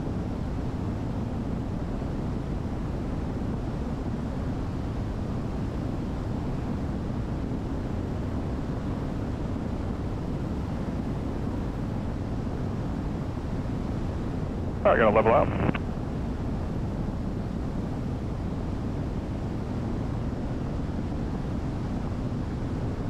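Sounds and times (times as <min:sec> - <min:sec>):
aircraft cabin engine drone: 0:00.0 - 0:23.0.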